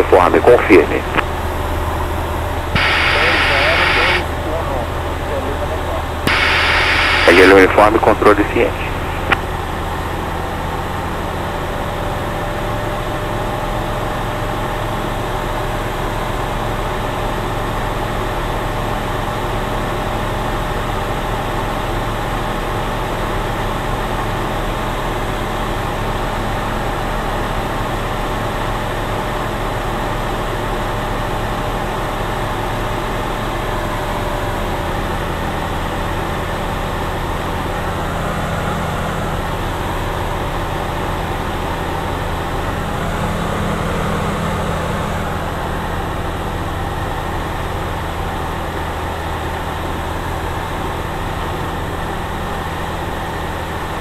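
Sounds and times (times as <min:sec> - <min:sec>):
propeller plane cabin drone: 0:00.0 - 0:54.0.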